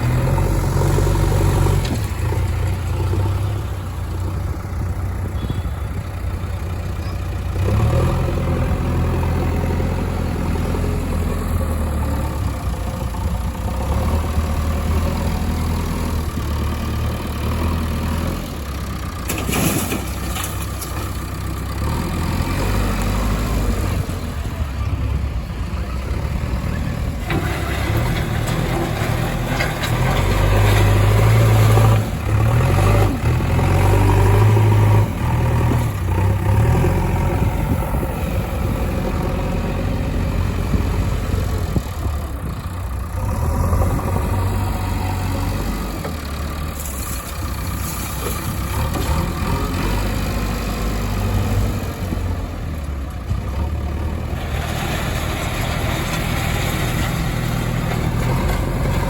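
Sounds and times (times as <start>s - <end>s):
heavy diesel engine revving: 0.0s - 19.6s, 21.0s - 59.0s.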